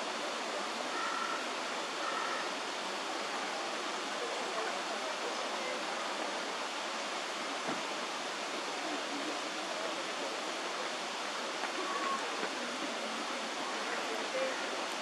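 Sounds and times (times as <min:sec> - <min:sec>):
running water in a stream: 0:00.0 - 0:15.0.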